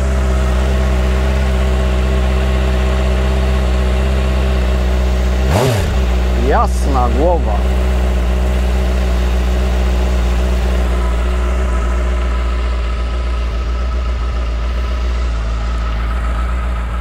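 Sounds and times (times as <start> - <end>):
car engine idling hoarsely: 0.0 - 17.0.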